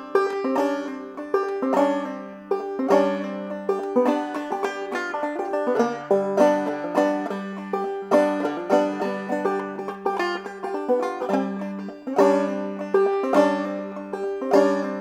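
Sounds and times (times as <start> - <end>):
banjo plucked notes: 0.0 - 15.0.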